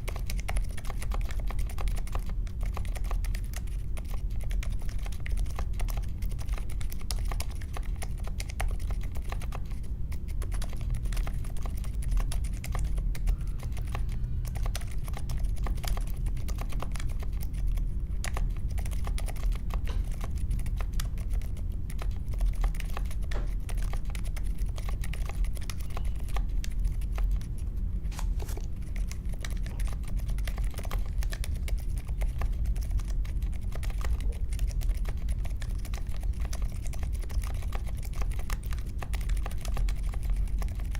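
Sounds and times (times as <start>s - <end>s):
mechanical keyboard typing: 0.0s - 27.6s, 28.8s - 40.9s.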